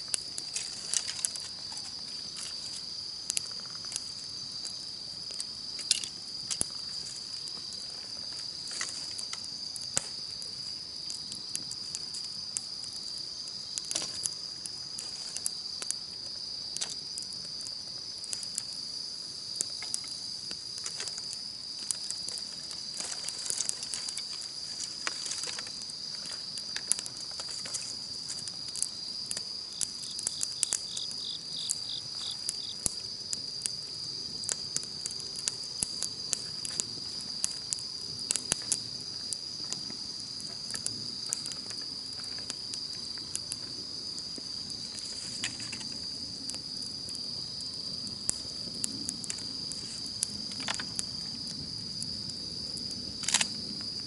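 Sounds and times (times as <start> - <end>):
campfire crackling: 0.0 - 54.0
high-pitched insect trill: 0.0 - 54.0.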